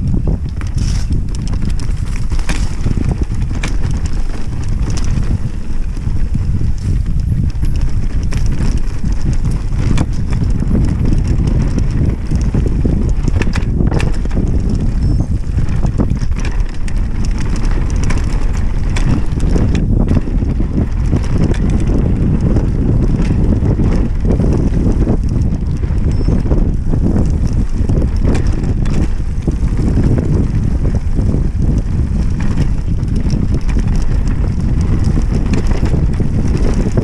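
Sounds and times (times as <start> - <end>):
bike chain and suspension rattling: 0.0 - 37.0
tyres rolling on dirt: 0.0 - 37.0
wind on microphone: 0.0 - 37.0.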